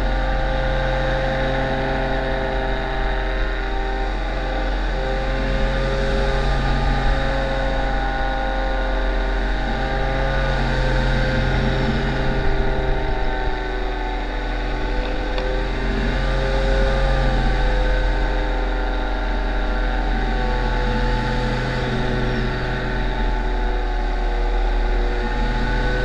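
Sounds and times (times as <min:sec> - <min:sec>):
paramotor engine buzzing drone: 0:00.0 - 0:26.0.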